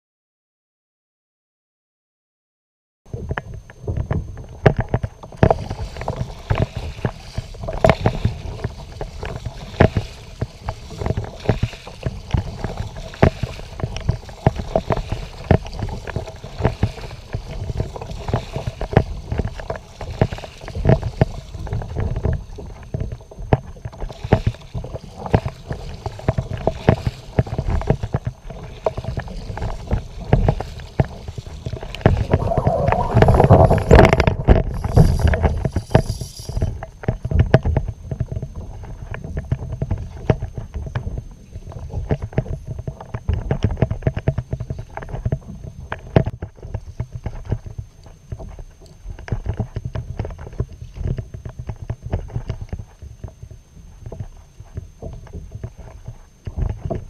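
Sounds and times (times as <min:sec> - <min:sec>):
faint steady hum: 0:03.1 - 0:57.0
water splashing against kayak hull: 0:03.8 - 0:57.0.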